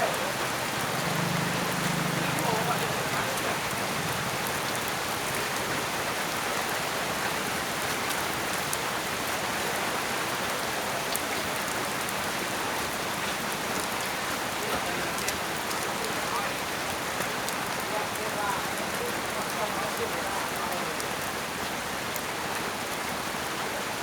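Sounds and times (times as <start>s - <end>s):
raindrops ticking: 0.0s - 22.6s
steady rain hiss: 0.0s - 24.0s.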